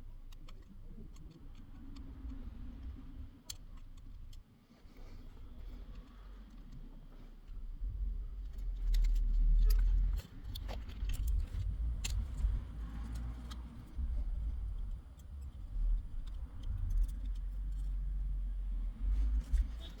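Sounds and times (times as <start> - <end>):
small sharp clicks and taps: 0.0 - 7.2, 8.4 - 18.4
low rumbling handling noise: 0.0 - 20.0.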